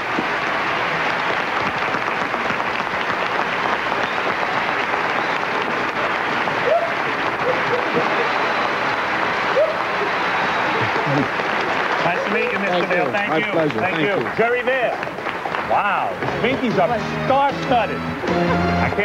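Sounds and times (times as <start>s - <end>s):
studio audience applauding: 0.0s - 19.0s.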